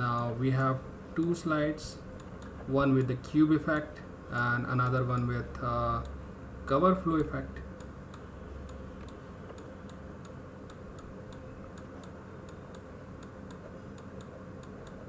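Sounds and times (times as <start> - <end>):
faint regular ticking: 0.0 - 15.0
low room hum: 0.0 - 15.0.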